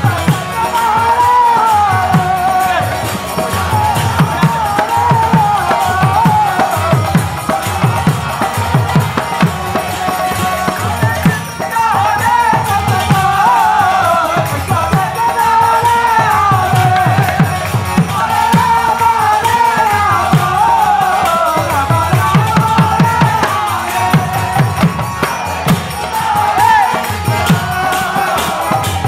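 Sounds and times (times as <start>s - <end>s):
jingling hand cymbals: 0.0s - 29.0s
person singing a chant melody: 0.0s - 29.0s
rapid hand-drum strokes: 0.0s - 29.0s.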